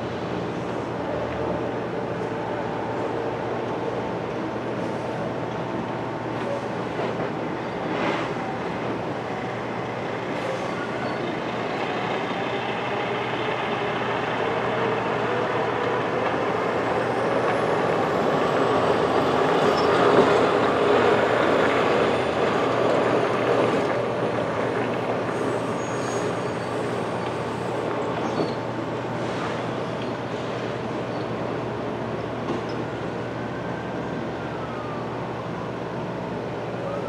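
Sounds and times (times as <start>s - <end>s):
train rumbling on rails: 0.0s - 34.3s.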